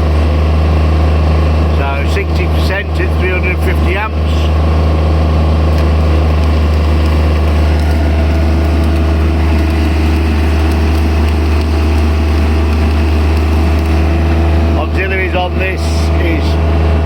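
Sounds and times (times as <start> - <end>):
diesel generator engine humming: 0.0 - 17.0.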